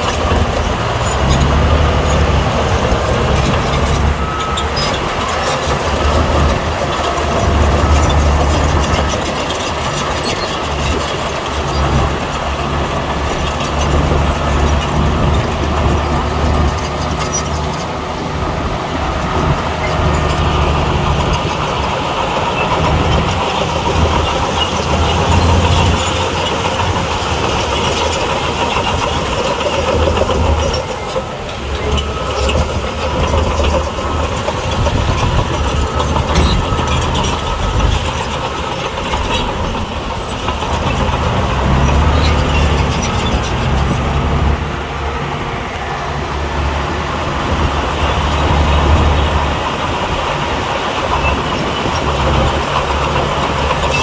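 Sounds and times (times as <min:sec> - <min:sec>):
tracks and blade clanking: 0:00.0 - 0:44.7
bulldozer diesel engine: 0:00.0 - 0:54.0.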